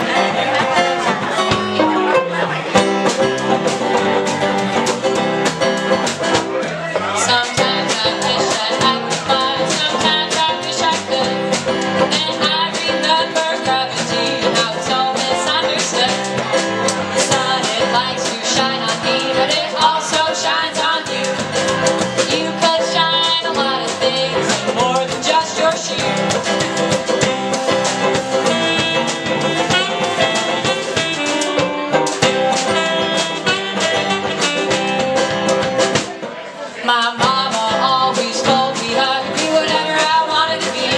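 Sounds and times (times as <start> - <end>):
folk band playing: 0.0 - 40.9
plucked and strummed guitar: 0.0 - 40.9.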